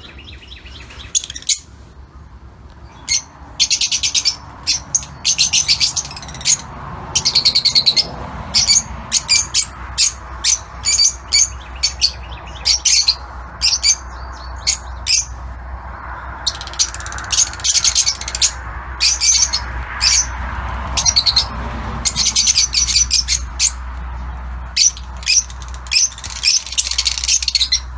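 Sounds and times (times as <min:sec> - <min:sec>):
lovebirds chirping: 0:00.0 - 0:27.9.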